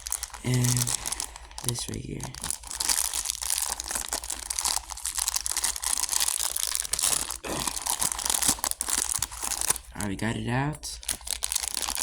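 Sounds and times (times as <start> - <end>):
packaging tearing and crinkling: 0.0 - 10.2, 11.0 - 12.0.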